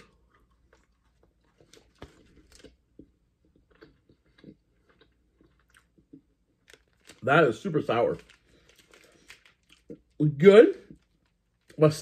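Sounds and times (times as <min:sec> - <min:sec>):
chewing gummy candy: 0:00.0 - 0:11.9.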